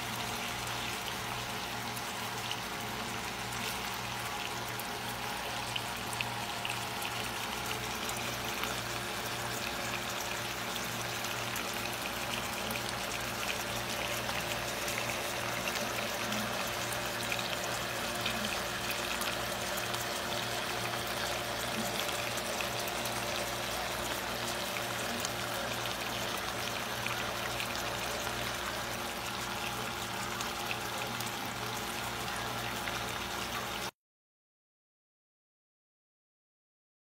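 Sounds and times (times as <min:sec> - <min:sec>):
chicken and vegetables sizzling: 0:00.0 - 0:33.9.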